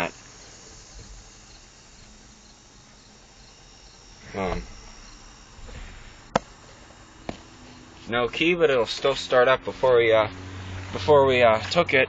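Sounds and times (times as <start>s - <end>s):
crickets chirping: 0.0s - 10.9s.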